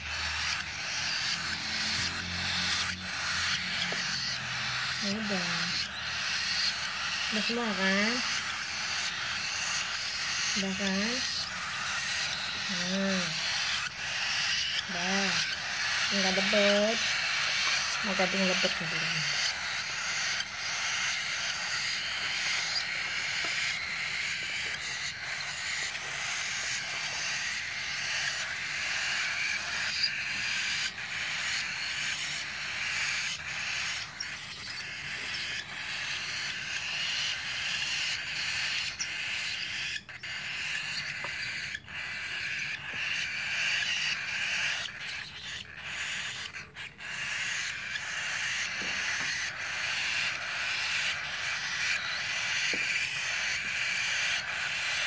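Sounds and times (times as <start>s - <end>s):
baby birds raspy hissing calls: 0.0s - 55.0s.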